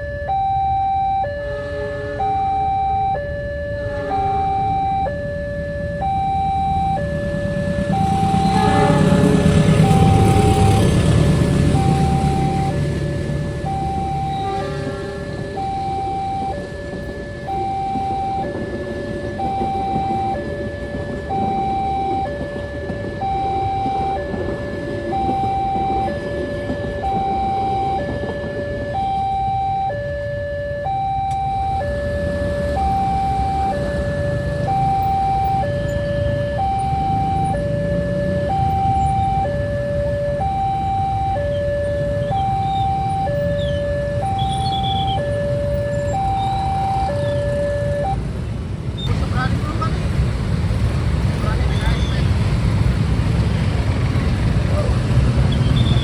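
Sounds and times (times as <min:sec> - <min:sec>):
low traffic rumble: 0:00.0 - 0:56.0
two-tone crossing alarm: 0:00.0 - 0:56.0.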